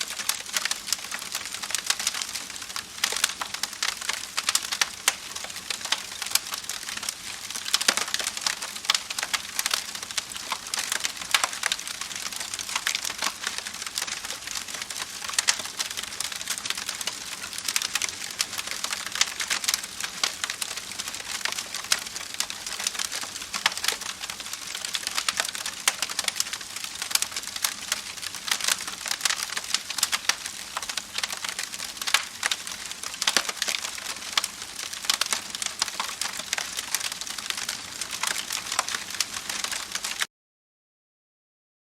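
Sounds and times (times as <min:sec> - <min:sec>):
campfire crackling: 0:00.0 - 0:40.3.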